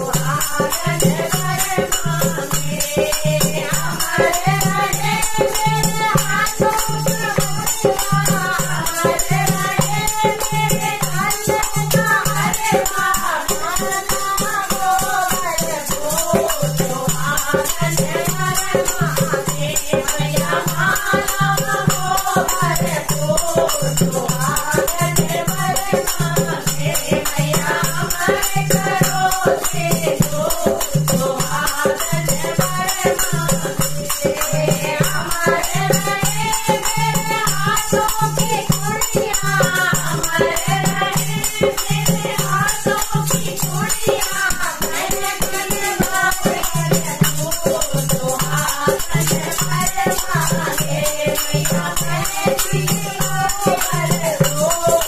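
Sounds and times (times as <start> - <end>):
hand cymbals jingling: 0.0 - 55.0
hand drum beat: 0.0 - 55.0
women singing together: 0.0 - 55.0.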